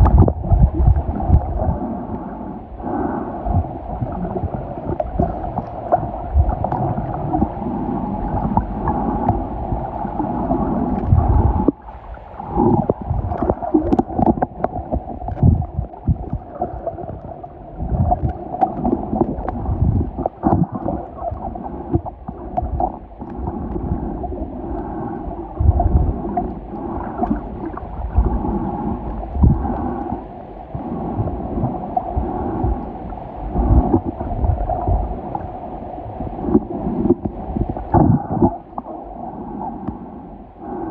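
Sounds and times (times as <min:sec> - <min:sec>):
underwater gurgling and sloshing: 0:00.0 - 0:40.9.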